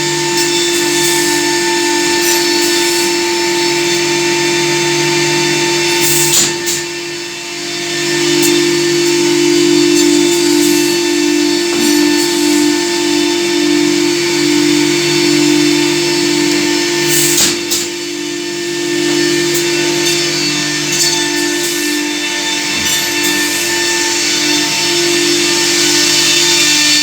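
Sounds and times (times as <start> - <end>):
machine motor hum and hiss: 0.0 - 27.0.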